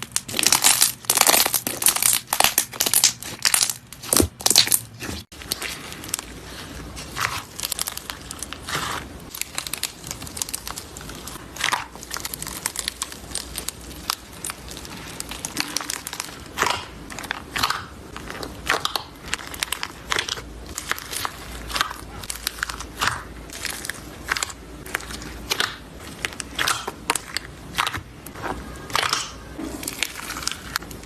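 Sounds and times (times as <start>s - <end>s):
slime crackling and clicking: 0.0s - 4.8s, 7.0s - 31.0s
slime popping: 0.0s - 30.9s.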